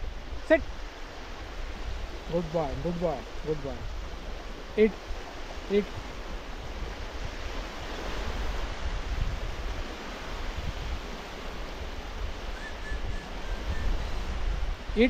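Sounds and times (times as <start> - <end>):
small waves lapping at shore: 0.0 - 15.0
wind buffeting microphone: 0.0 - 15.0.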